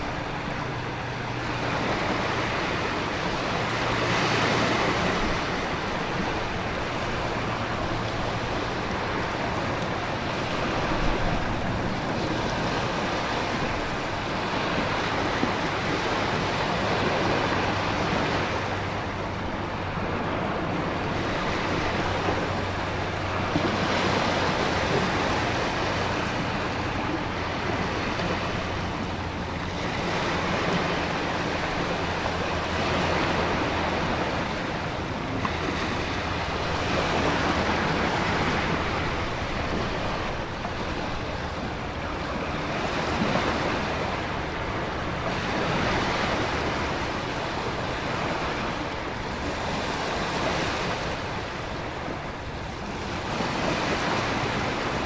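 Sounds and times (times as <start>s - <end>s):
heavy ocean surf: 0.0s - 55.0s
wind and rain hiss: 0.0s - 55.0s.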